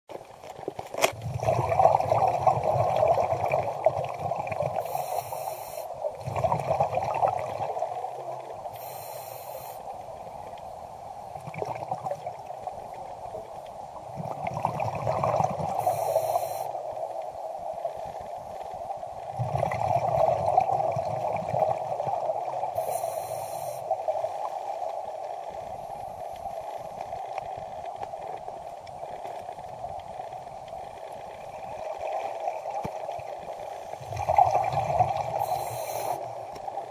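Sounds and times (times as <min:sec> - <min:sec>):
muffled underwater water noise: 0:00.1 - 0:36.9.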